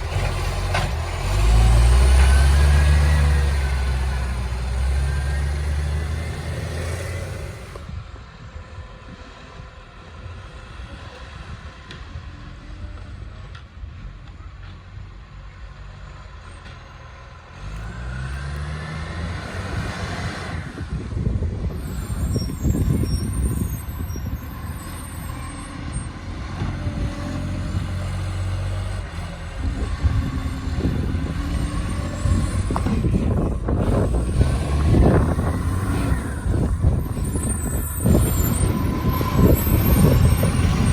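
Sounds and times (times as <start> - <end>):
diesel truck engine revving: 0.0 - 8.0, 15.5 - 40.9.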